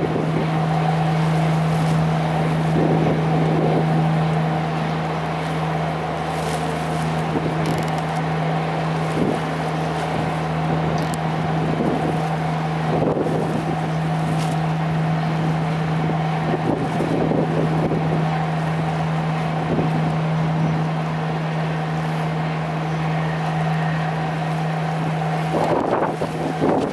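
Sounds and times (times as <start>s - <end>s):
wind gusting on microphone: 0.0s - 20.8s, 25.0s - 26.9s
boat engine droning: 0.0s - 26.9s.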